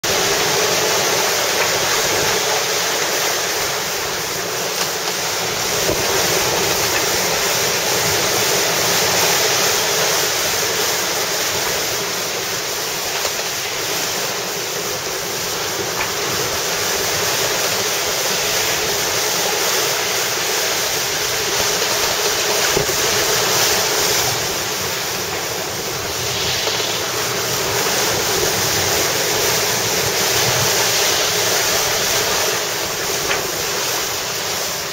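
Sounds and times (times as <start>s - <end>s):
wind and sea water rushing: 0.0s - 34.9s.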